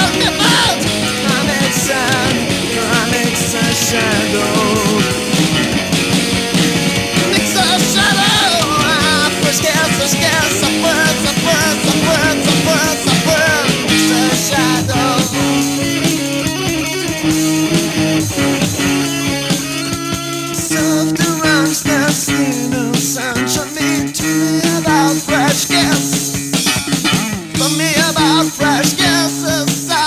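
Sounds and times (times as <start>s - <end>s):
bending lead guitar notes: 0.0s - 29.6s
rock band music: 0.0s - 30.0s.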